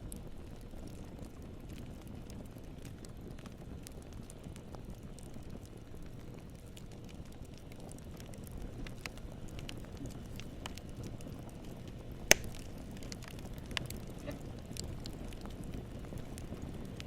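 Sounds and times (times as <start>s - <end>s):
campfire burning and crackling: 0.0s - 17.0s.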